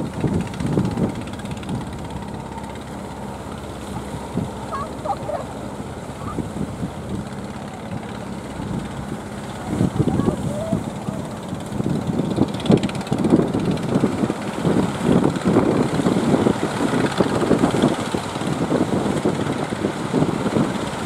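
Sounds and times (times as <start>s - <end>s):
boat engine running: 0.0s - 21.0s
wind buffeting microphone: 0.0s - 21.0s.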